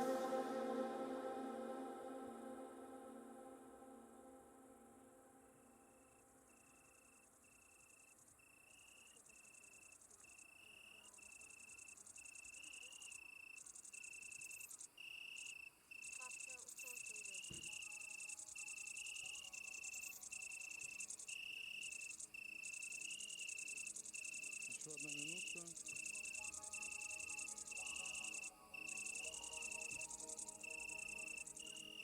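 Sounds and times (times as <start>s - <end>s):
crickets chirping: 4.6s - 32.0s
rapid buzzing insect trill: 6.0s - 32.0s.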